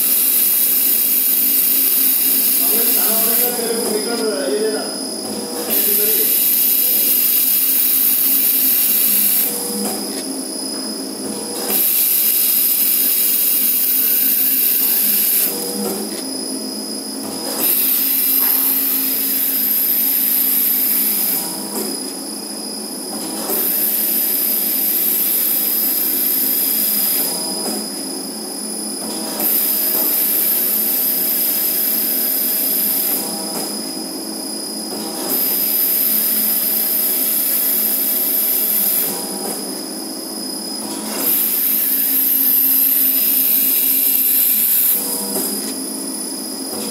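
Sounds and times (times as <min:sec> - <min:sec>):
high machine whine: 0:00.0 - 0:46.9.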